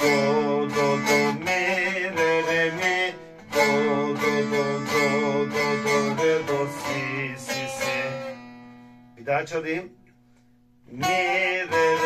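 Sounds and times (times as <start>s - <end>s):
long-necked lute plucked melody: 0.0s - 9.1s, 10.9s - 12.0s.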